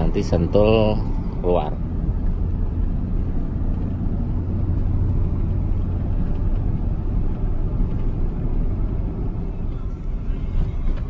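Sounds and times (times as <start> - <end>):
car cabin engine and tyre rumble: 0.0 - 11.0.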